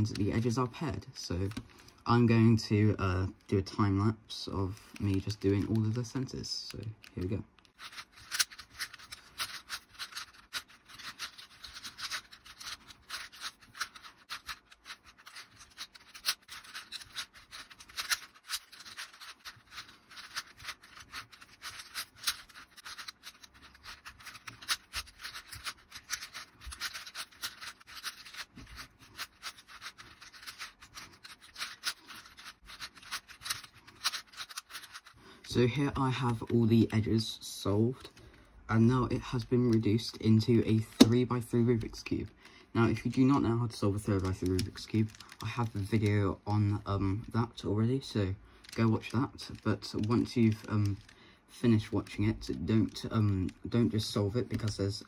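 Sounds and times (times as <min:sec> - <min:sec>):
puzzle cube plastic clicks: 0:04.6 - 0:37.1, 0:39.0 - 0:55.0.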